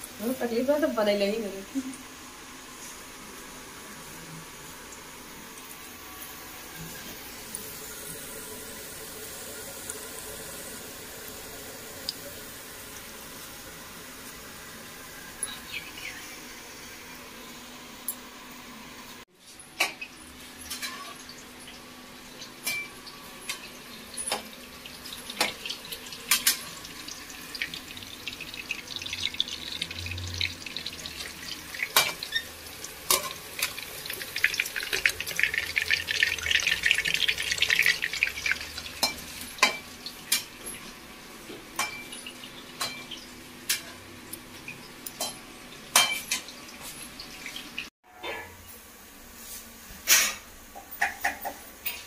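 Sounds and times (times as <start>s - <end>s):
food deep-frying in oil: 0.0s - 52.0s.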